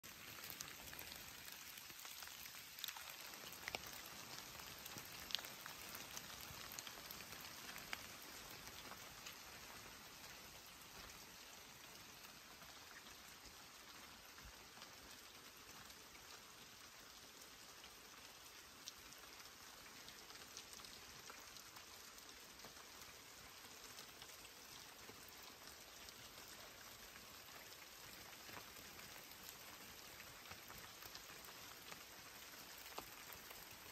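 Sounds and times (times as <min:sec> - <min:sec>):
light rain hissing: 0:00.0 - 0:33.9.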